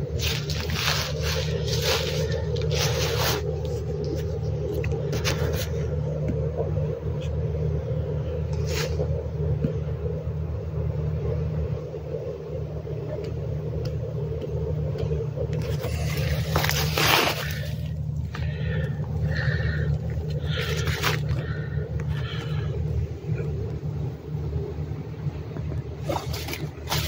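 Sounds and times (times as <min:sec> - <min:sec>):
tractor engine drone: 0:00.0 - 0:27.0.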